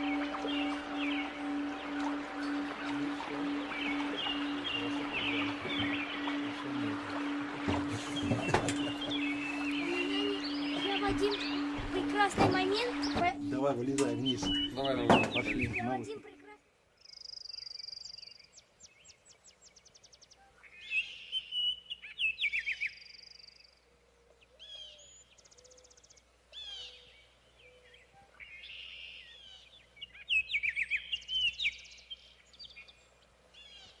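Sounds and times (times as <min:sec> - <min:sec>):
songbirds singing and calling: 0:00.0 - 0:34.0.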